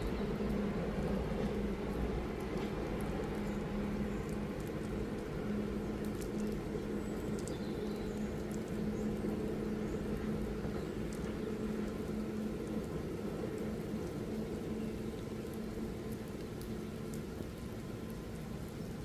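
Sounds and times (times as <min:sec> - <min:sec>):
drops ticking close by: 0:00.0 - 0:19.0
steady rain falling: 0:00.0 - 0:19.0.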